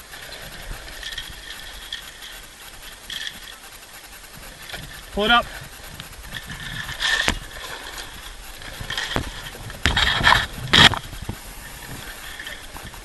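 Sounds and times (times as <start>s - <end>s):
rough crackling bursts: 0.0s - 13.0s
sailcloth rustling and scraping: 0.0s - 13.0s
wind and water hiss: 0.0s - 13.0s.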